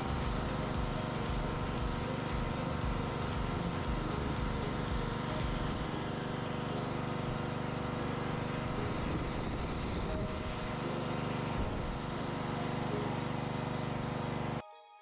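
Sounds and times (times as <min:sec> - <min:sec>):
pressure washer engine running: 0:00.0 - 0:14.5.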